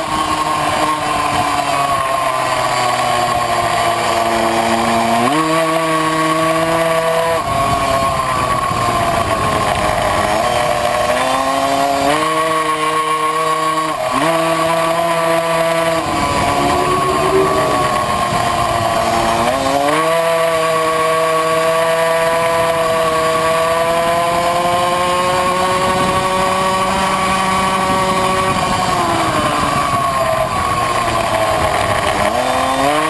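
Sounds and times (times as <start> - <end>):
moped engine at high revs: 0.0 - 17.0, 21.0 - 33.0.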